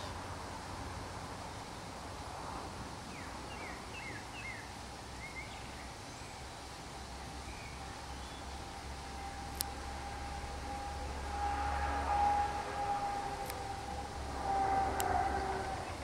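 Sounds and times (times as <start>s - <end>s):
outdoor background noise: 0.0s - 16.0s
songbird chirping: 3.1s - 16.0s.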